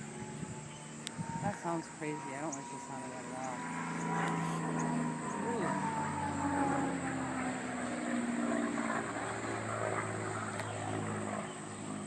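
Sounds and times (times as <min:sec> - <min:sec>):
propeller airplane flying over: 0:00.0 - 0:12.0.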